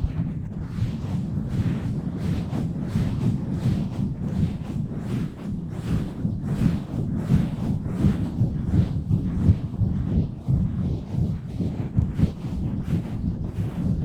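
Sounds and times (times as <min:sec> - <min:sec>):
hands rubbing on a microphone: 0:00.0 - 0:14.0.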